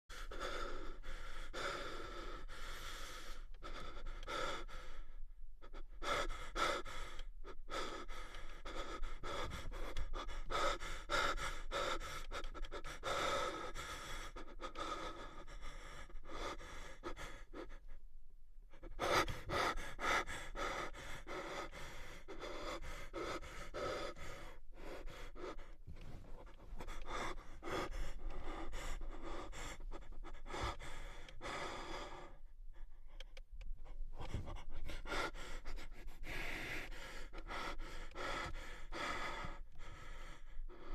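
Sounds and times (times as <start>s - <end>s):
man panting heavily: 0.1s - 18.0s, 18.7s - 40.9s.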